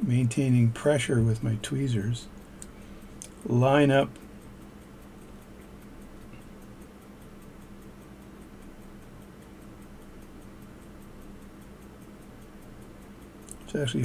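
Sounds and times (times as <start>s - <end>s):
low steady hum: 0.0s - 14.0s
mechanical watch ticking: 0.0s - 14.0s.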